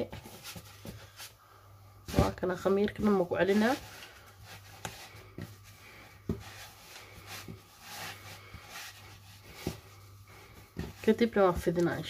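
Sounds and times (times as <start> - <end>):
dough being kneaded by hand: 0.0 - 12.0.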